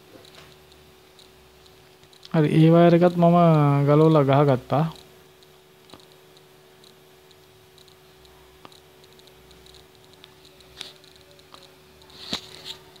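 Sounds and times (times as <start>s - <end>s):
faint steady hum: 0.0s - 13.0s
light ticking: 0.2s - 12.1s.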